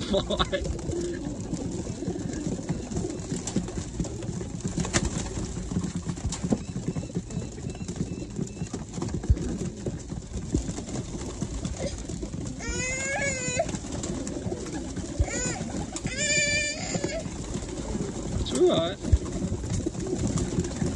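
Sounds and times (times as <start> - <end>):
beaks and feet tapping: 0.0 - 20.9
pigeons cooing: 0.0 - 20.9.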